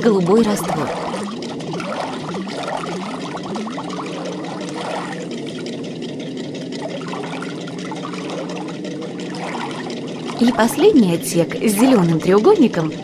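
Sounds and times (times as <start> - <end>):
low hum: 0.0 - 13.0
liquid pouring into tank: 0.2 - 11.0.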